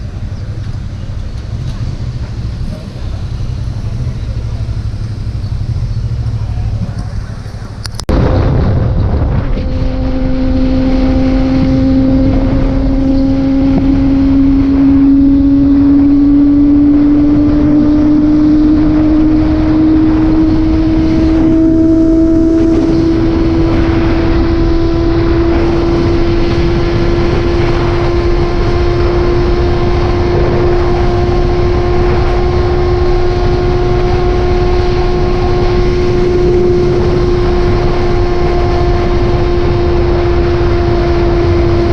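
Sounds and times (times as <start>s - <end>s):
motorcycle engine running: 0.0s - 41.9s
wind rumble: 0.0s - 41.9s.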